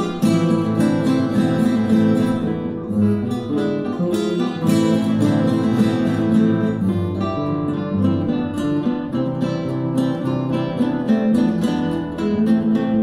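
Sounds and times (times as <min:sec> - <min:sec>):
classical guitars playing together: 0:00.0 - 0:13.0.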